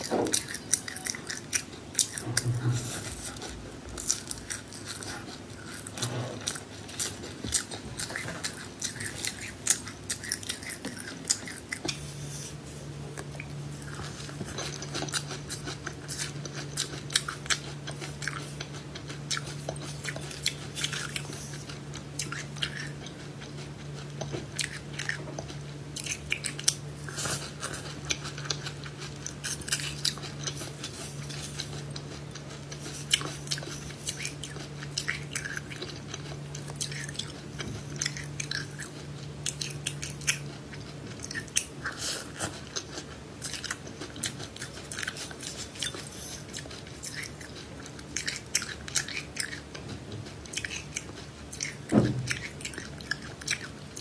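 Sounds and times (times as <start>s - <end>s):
chewing crunchy food: 0.0s - 54.0s
steady low hum: 0.0s - 54.0s.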